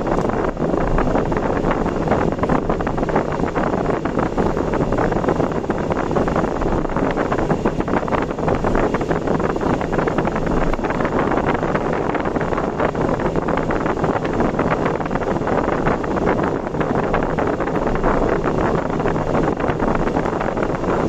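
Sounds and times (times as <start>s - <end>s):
vehicle road noise: 0.0s - 21.0s
wind buffeting microphone: 0.0s - 21.0s.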